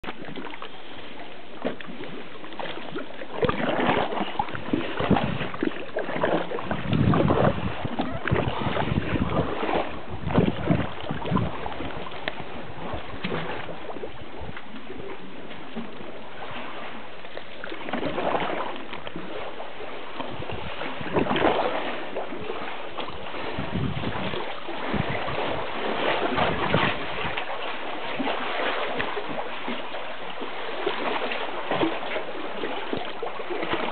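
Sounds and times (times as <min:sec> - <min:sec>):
lapping water: 0:00.0 - 0:33.9
paddle strokes splashing: 0:00.0 - 0:33.9.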